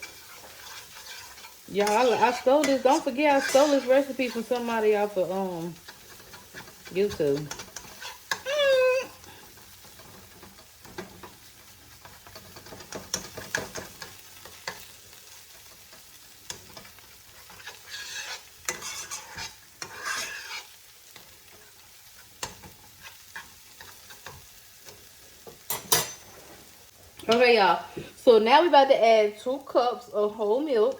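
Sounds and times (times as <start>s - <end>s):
utensil scraping a pan: 0.0s - 8.5s, 9.2s - 14.9s, 15.6s - 26.8s
roux sizzling in a skillet: 0.0s - 30.9s.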